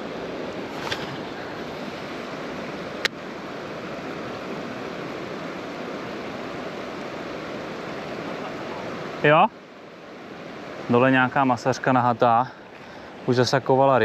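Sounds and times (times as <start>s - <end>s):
river water rushing over weir: 0.0s - 14.0s.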